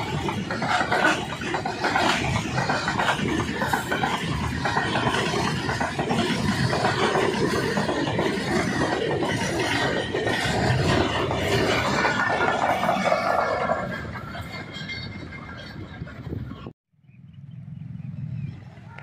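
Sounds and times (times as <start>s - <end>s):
train wheels clattering over rails: 0.0s - 16.3s.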